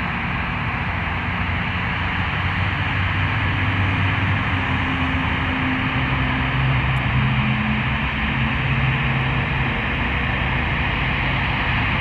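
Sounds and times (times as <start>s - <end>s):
jet engines running steadily: 0.0s - 12.0s.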